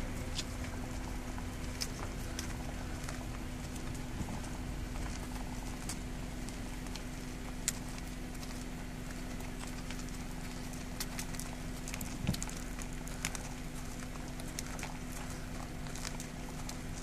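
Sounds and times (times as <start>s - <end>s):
bison hooves clopping on road: 0.0s - 17.0s
steady low hum: 0.0s - 17.0s.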